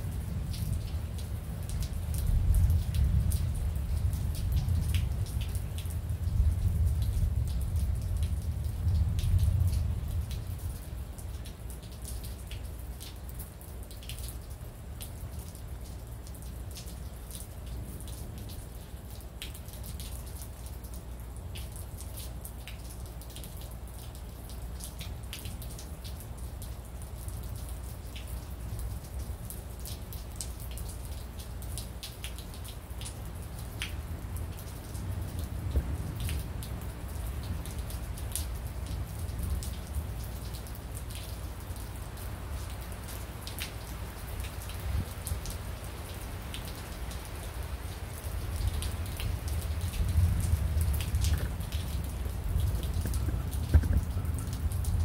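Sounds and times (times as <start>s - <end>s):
raindrops ticking: 0.0s - 55.0s.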